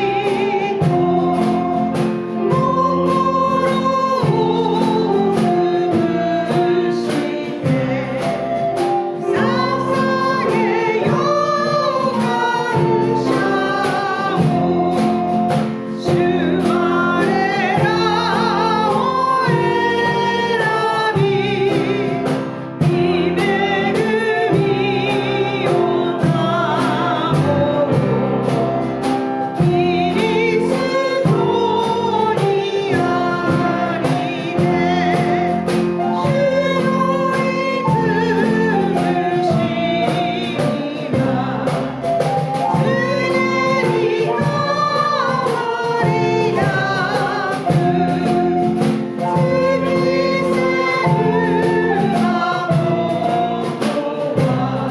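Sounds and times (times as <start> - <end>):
congregation singing a hymn: 0.0 - 54.9.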